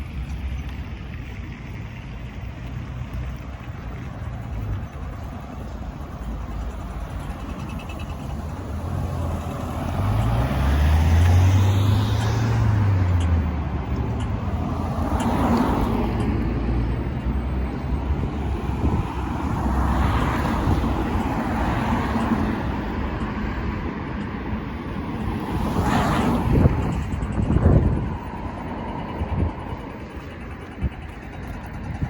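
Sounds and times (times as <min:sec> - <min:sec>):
deep engine rumble: 0:00.0 - 0:32.0
vehicles driving past: 0:00.0 - 0:32.0.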